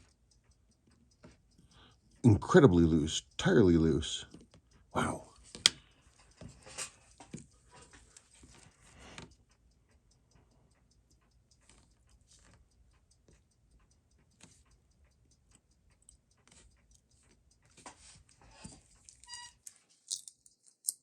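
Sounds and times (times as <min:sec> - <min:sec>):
clock ticking: 0:00.0 - 0:19.6.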